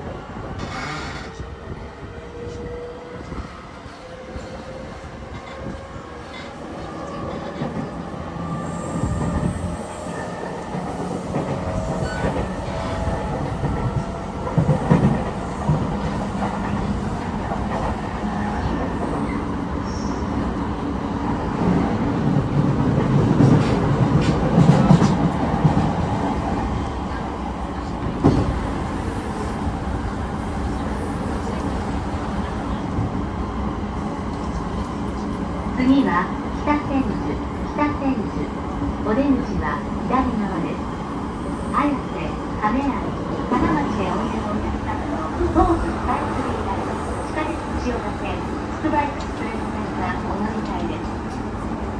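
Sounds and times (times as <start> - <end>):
train wheels rumbling on track: 0.0 - 51.9.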